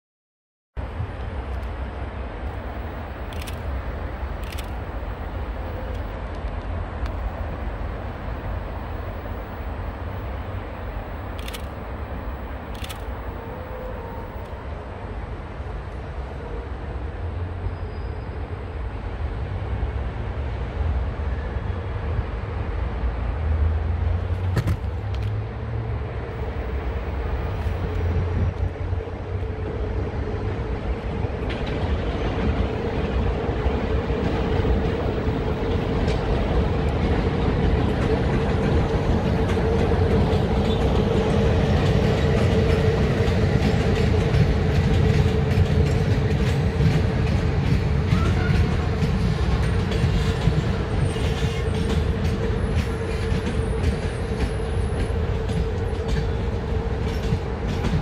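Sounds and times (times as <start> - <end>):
train low rumble: 0.8 - 58.0.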